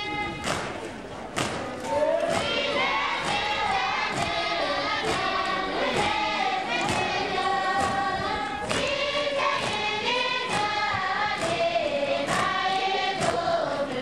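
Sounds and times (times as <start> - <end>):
workers singing in chorus: 1.9 - 14.0.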